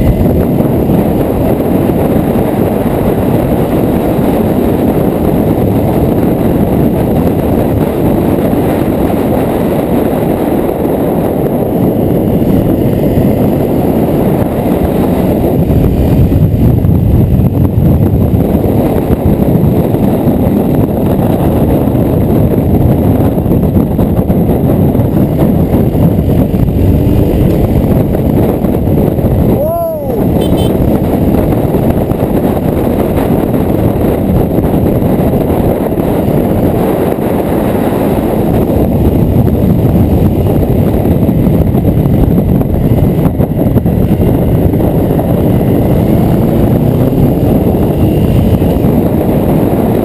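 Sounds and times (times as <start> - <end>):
motorcycle engine revving hard: 0.0 - 50.0
wind roar: 0.0 - 50.0.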